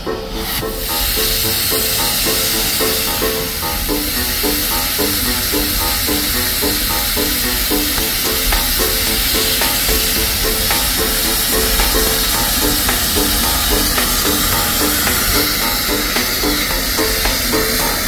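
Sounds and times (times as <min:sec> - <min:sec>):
music with repeating melody: 0:00.0 - 0:18.0
steam hissing from locomotive: 0:00.0 - 0:18.0.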